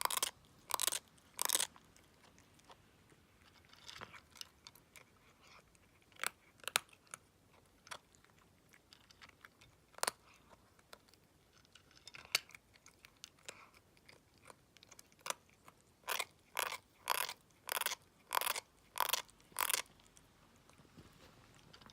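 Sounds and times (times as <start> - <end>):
kitten teeth grinding and crunching: 0.0 - 21.9.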